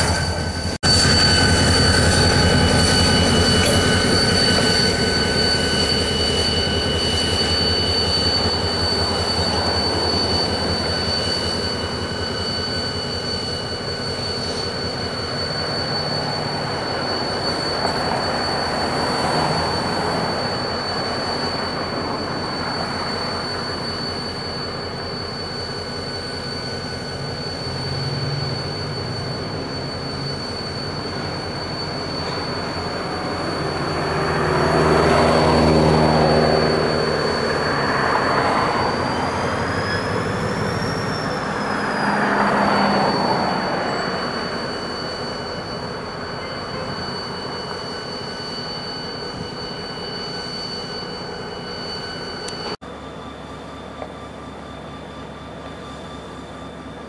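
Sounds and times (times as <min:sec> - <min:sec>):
high wheel squeal: 0:00.0 - 0:57.0
locomotive engine running: 0:00.0 - 0:57.0
train cars rolling on rails: 0:00.0 - 0:57.0.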